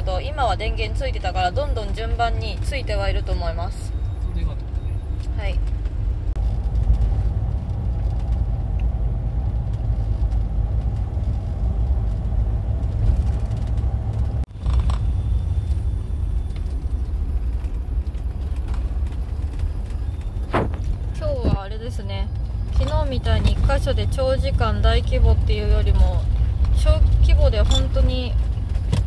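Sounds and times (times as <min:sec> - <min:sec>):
road and engine rumble: 0:00.0 - 0:29.0.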